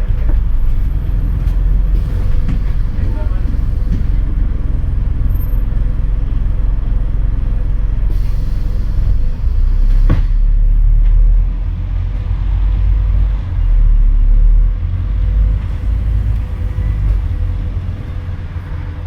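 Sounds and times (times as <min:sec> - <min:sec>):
bus diesel engine rumble: 0:00.0 - 0:19.0.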